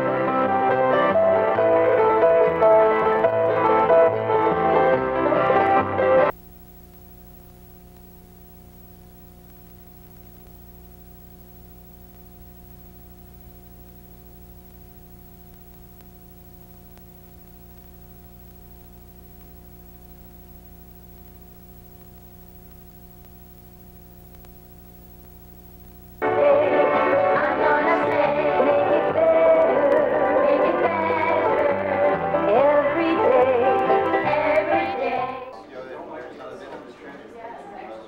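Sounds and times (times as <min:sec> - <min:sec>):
electrical hum: 0:00.0 - 0:35.7
tape hiss: 0:00.0 - 0:35.8.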